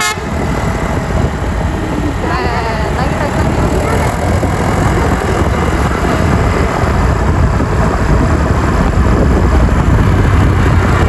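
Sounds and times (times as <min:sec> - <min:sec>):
bus engine rumbling: 0:00.0 - 0:11.0
road noise: 0:00.0 - 0:11.0.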